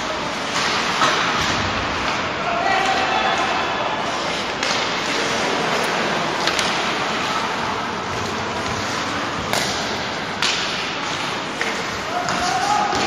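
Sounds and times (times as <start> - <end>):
arena hubbub: 0.0 - 13.0
skates on ice: 0.0 - 13.0
hockey sticks and puck knocking: 0.4 - 3.1, 4.3 - 7.2, 8.0 - 13.0.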